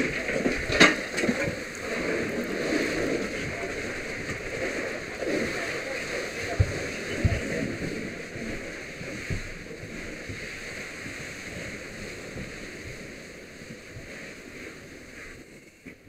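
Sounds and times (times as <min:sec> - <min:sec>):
fire hose water rushing: 0:00.0 - 0:16.0.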